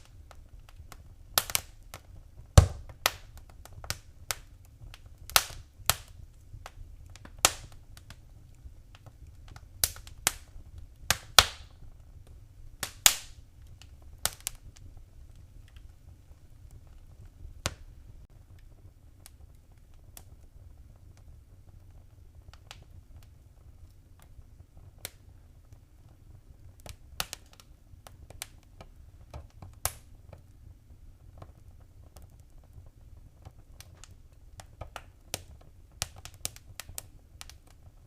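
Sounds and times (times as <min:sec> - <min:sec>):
faint low rumble: 0:00.0 - 0:38.0
wood fire crackling: 0:00.0 - 0:38.0.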